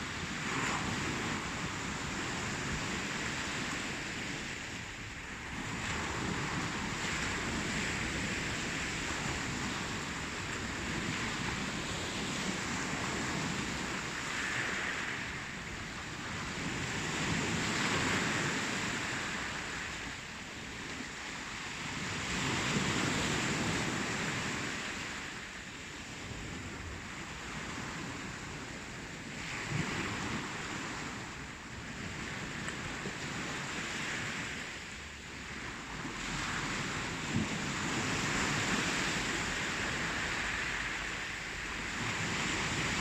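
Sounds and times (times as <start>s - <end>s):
waves breaking: 0.0s - 43.0s.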